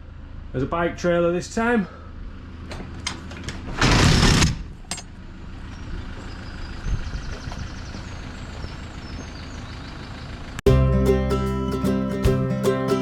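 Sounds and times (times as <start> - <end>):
van engine idling: 0.0 - 3.7, 5.1 - 13.0.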